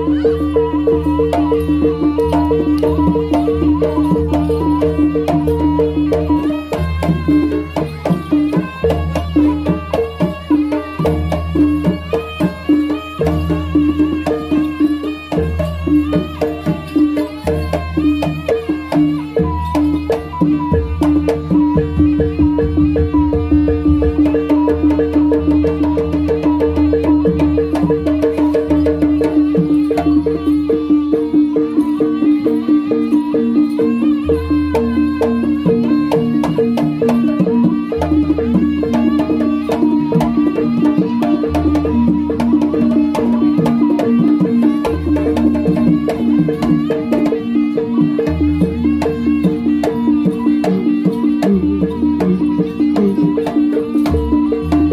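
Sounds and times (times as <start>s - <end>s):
drum and wood-block beat: 0.0s - 54.9s
gamelan percussion: 0.0s - 54.9s.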